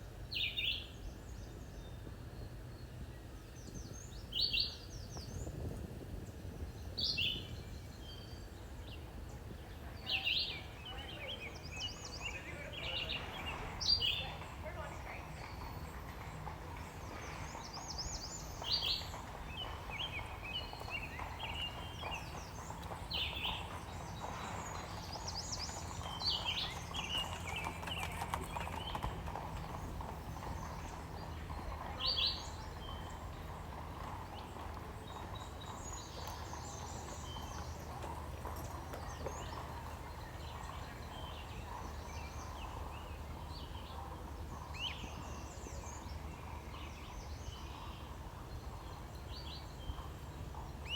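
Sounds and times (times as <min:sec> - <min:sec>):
horse hooves clip-clopping on road: 0:08.5 - 0:50.9.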